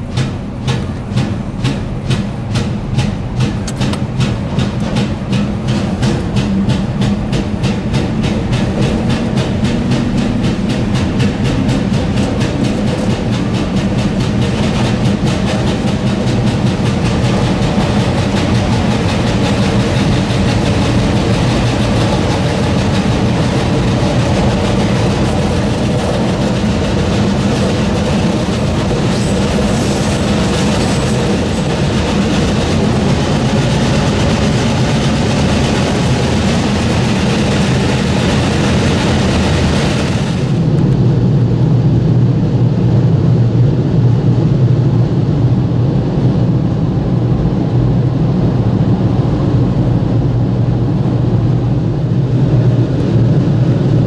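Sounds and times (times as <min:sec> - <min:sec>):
train wheels rumbling in tunnel: 0:00.0 - 0:54.0.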